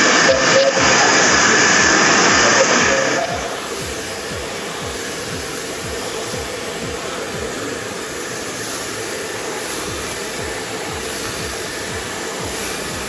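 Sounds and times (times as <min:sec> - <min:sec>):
hair dryer blowing: 0:00.0 - 0:13.0
music beat: 0:00.0 - 0:13.0.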